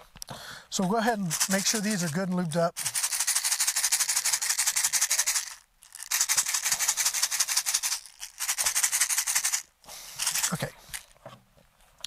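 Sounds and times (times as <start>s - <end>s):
steel balls rattling in a container: 1.1s - 11.1s.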